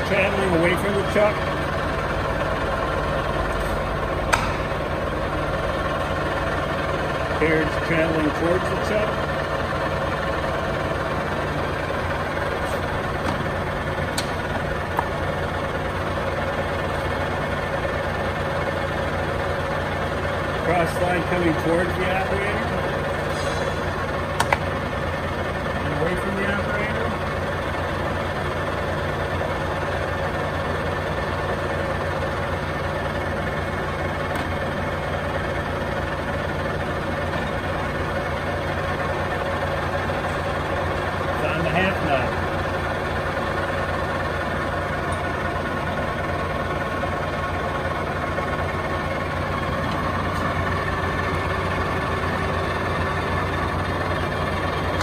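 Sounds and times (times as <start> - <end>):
lathe running hum: 0.0 - 55.0.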